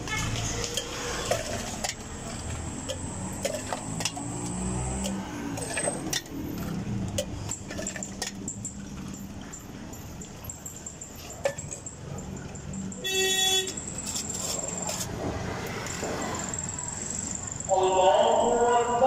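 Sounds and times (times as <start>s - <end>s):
steel bowls and utensils clinking: 0.0s - 17.6s
street traffic rumble: 0.0s - 19.0s.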